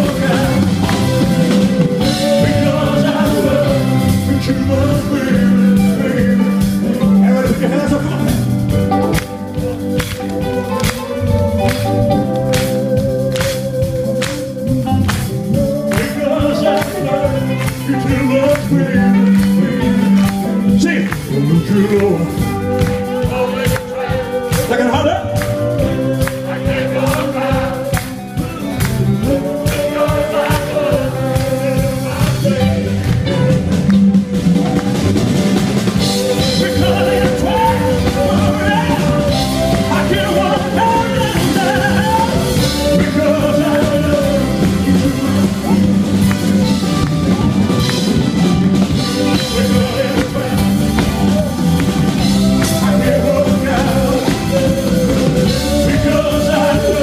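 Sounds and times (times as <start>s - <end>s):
man singing: 0.0s - 9.1s, 15.4s - 33.8s, 35.9s - 46.7s, 47.7s - 57.0s
drum kit: 0.0s - 57.0s
electric guitars: 0.0s - 57.0s.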